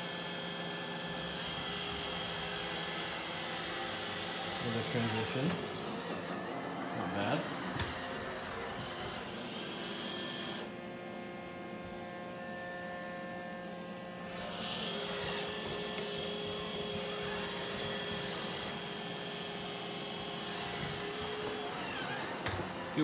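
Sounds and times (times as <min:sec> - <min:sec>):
robot vacuum motor whine: 0:00.0 - 0:23.0.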